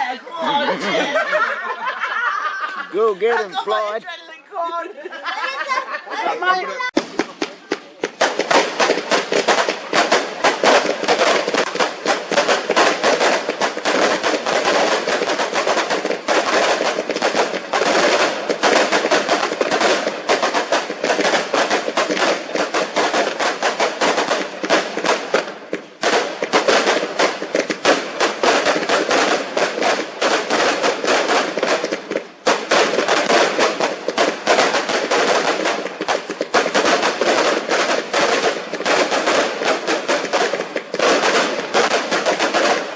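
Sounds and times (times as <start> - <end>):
fireworks bangs and crackles: 6.9 - 42.9.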